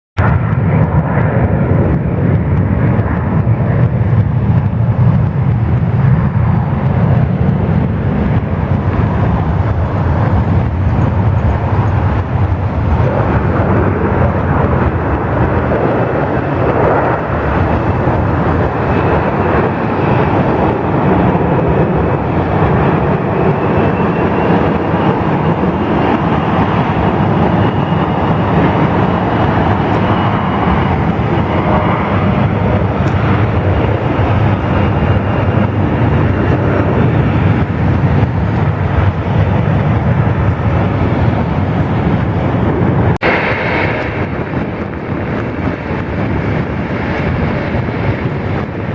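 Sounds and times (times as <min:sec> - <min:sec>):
jet engines running: 0:00.2 - 0:48.9.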